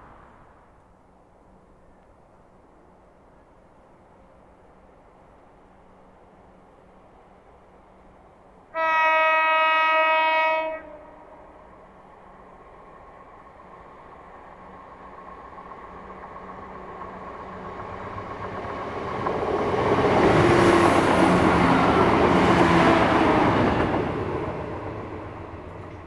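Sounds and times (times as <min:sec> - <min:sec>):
diesel train passing close: 0:00.0 - 0:26.0.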